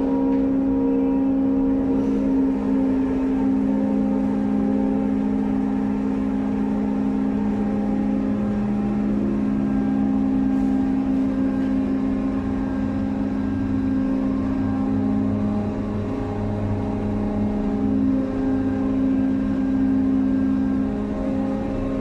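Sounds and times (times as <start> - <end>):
crane machinery humming: 0.0 - 22.0
deep low hum: 0.0 - 22.0.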